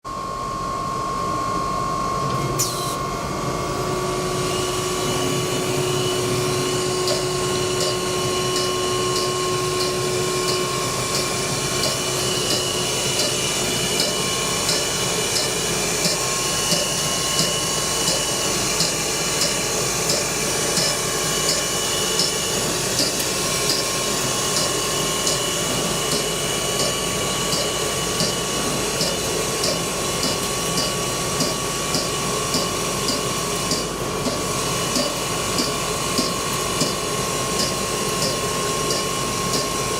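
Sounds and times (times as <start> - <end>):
router spindle whine: 0.1 - 32.4.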